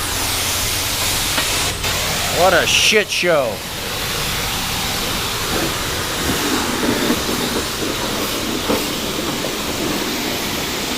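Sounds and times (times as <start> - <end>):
car wash equipment hissing: 0.0 - 10.9.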